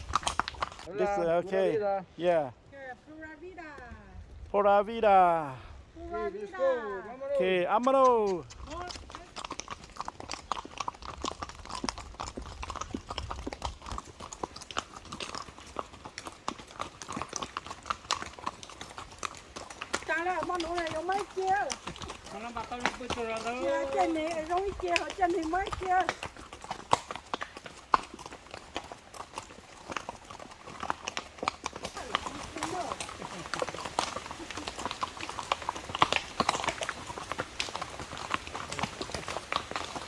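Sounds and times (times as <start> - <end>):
horse hooves clip-clopping: 0.0 - 40.0.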